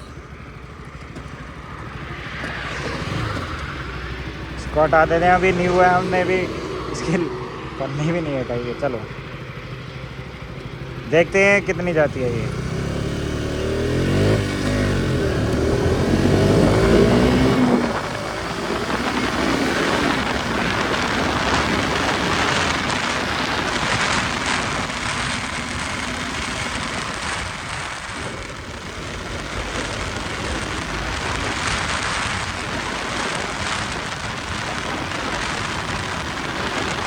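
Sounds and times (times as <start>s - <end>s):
motorcycle engine revving: 0.0s - 37.0s
wind rushing over microphone: 0.0s - 37.0s.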